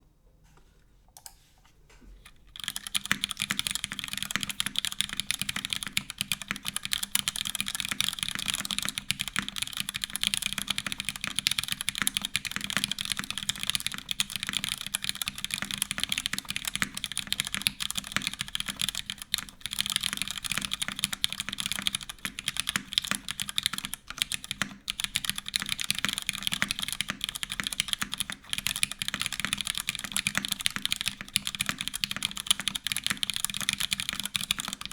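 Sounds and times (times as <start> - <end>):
mechanical keyboard typing: 2.2 - 34.9.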